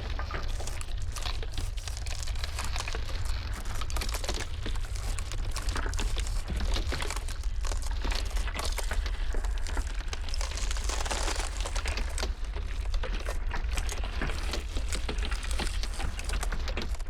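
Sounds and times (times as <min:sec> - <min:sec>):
ice cracking: 0:00.0 - 0:17.0.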